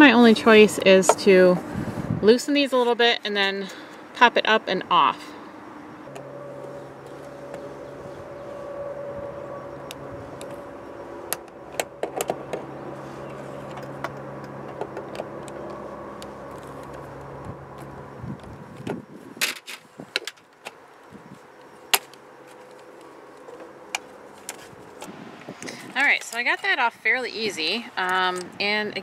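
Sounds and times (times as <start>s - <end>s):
mechanical hum: 0.0s - 26.5s.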